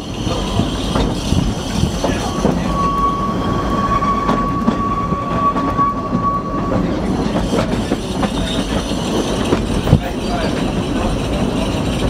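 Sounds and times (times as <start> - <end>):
railway carriage rumbling: 0.0 - 12.0
thin steady squeal: 0.3 - 12.0.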